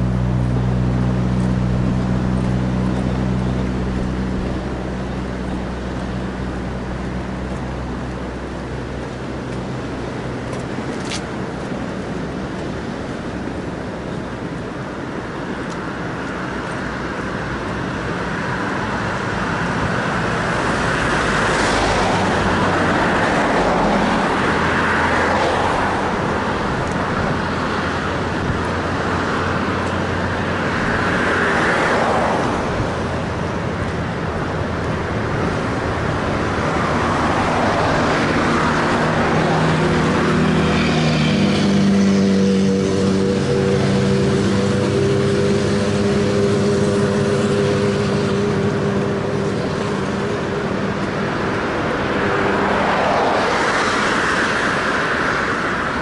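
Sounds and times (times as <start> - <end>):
vehicle engine approaching: 0.0 - 15.2, 16.0 - 56.0
cars passing: 0.0 - 56.0.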